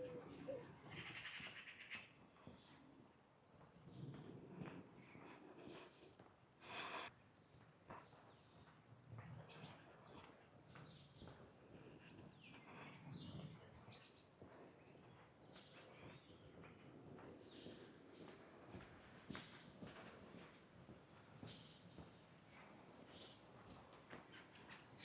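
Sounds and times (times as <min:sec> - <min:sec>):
small birds chirping: 0:00.0 - 0:20.6, 0:21.2 - 0:25.0.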